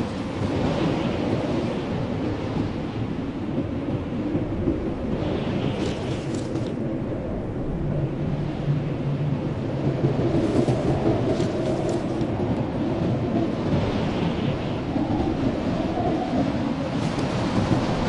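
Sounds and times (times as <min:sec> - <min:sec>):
blizzard wind howling: 0:00.0 - 0:18.0.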